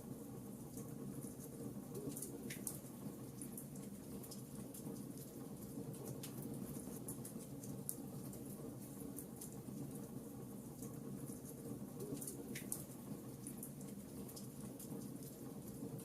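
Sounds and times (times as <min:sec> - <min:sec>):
wood fire crackling: 0:02.1 - 0:16.0.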